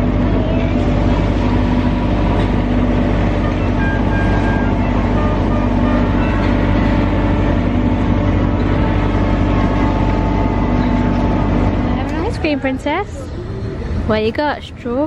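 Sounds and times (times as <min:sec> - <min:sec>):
loud steady engine hum: 0:00.0 - 0:15.0.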